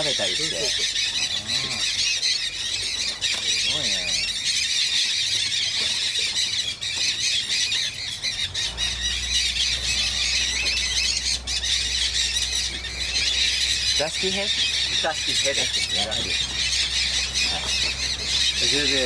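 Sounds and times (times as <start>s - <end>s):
parrots squawking and screeching: 0.0s - 19.0s.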